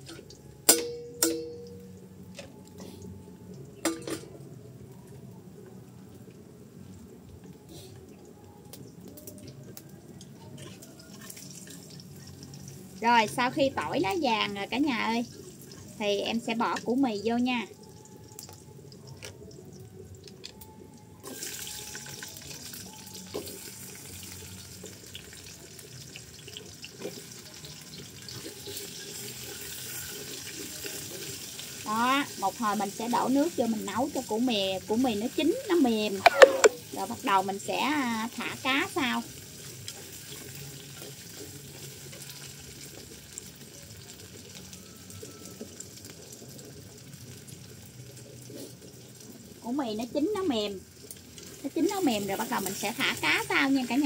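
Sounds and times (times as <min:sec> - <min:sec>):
frying in hot oil hissing: 0:00.0 - 0:04.9, 0:06.0 - 0:54.0
garlic frying crackle: 0:00.0 - 0:54.0.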